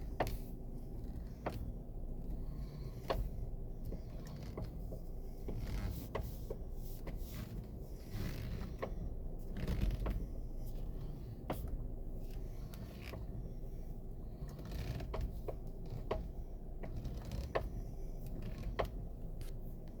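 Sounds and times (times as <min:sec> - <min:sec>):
sharp clicks and light knocks: 0:00.0 - 0:02.4, 0:03.0 - 0:07.8, 0:08.4 - 0:10.3, 0:11.4 - 0:13.4, 0:14.4 - 0:20.0
steady low rumble: 0:00.0 - 0:20.0.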